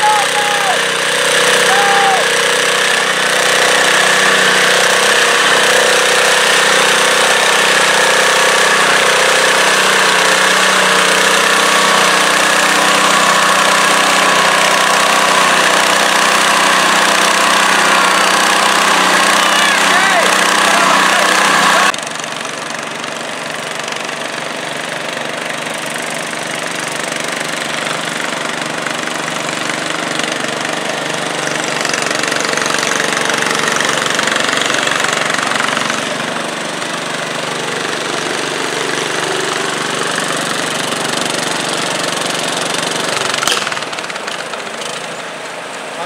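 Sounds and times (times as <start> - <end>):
tractor engines idling: 0.0 - 46.0.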